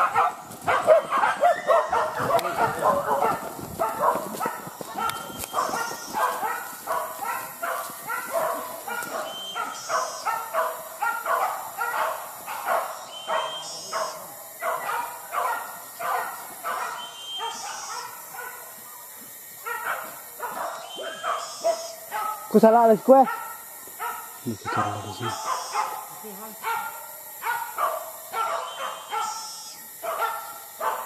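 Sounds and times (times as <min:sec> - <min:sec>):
dogs barking and yelping: 0:00.0 - 0:31.0.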